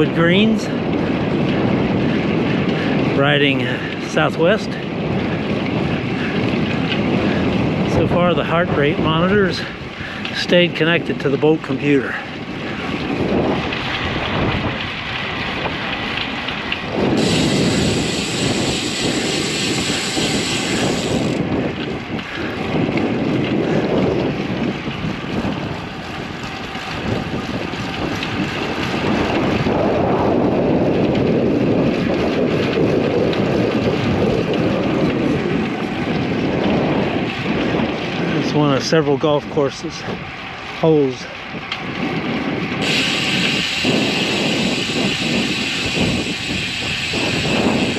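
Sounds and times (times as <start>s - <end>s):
road noise: 0.0s - 47.9s
wind buffeting microphone: 0.0s - 47.9s.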